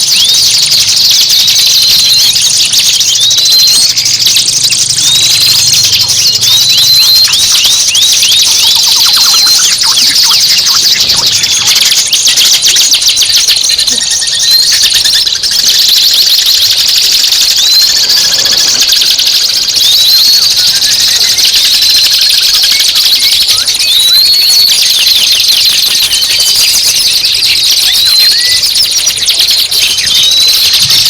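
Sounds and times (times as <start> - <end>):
rising whistled bird note: 0.0 - 31.0
songbird chattering trill: 0.0 - 31.0.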